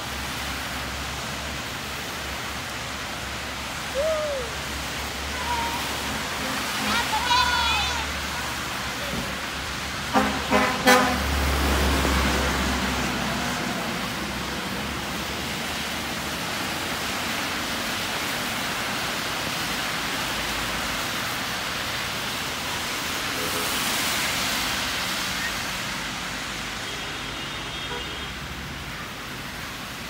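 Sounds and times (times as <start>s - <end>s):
cars passing on wet road: 0.0s - 30.0s
heavy rain hissing: 0.0s - 30.0s.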